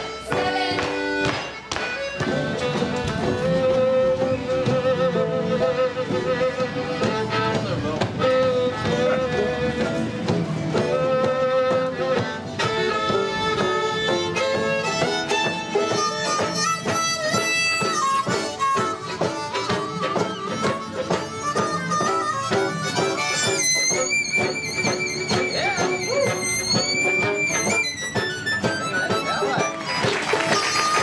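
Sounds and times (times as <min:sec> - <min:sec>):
banjo: 0:00.0 - 0:31.0
fiddle: 0:00.0 - 0:31.0
harmonica: 0:00.0 - 0:31.0.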